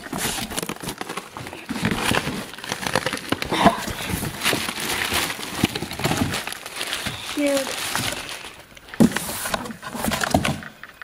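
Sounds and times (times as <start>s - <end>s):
cardboard rustling and crinkling: 0.0s - 11.0s.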